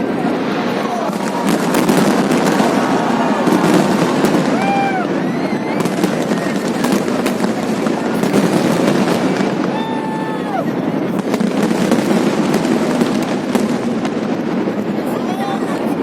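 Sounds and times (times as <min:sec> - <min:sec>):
crowd noise: 0:00.0 - 0:16.0
fireworks crackling and banging: 0:00.0 - 0:16.0
whistling fireworks: 0:00.0 - 0:16.0.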